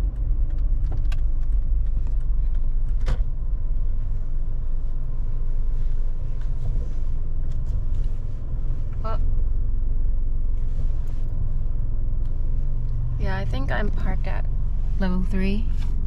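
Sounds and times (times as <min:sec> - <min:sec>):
car rumbling on the move: 0:00.0 - 0:16.0.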